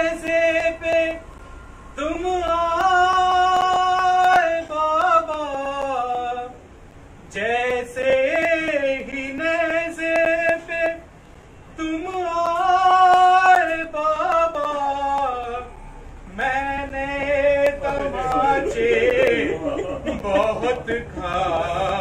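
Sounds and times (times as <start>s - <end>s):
man singing unaccompanied: 0.0s - 1.3s, 1.9s - 6.6s, 7.2s - 22.0s.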